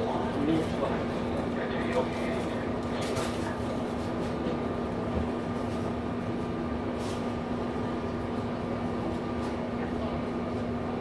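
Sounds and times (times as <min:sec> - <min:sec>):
train mechanical hum: 0:00.0 - 0:11.0.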